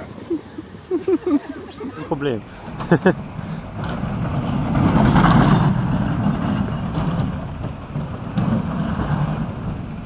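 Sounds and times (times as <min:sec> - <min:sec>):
coaster wheels rumbling on track: 0:00.0 - 0:10.0.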